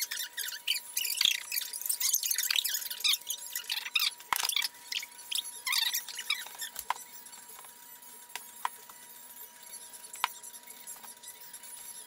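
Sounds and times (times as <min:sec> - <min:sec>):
glove and towel squeaks and rustles: 0:00.0 - 0:12.0.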